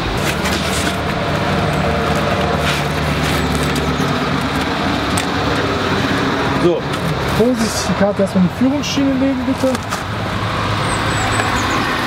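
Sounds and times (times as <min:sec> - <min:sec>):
traffic engine drone: 0:00.0 - 0:12.0.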